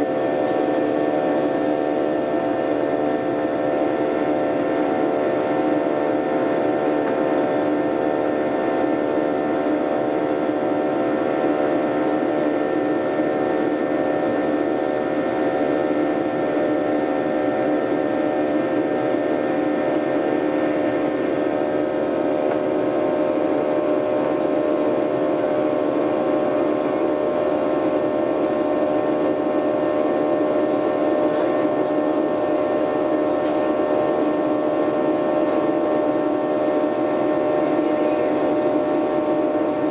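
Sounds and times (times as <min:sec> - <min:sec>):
jet cabin engine hum: 0:00.0 - 0:39.9.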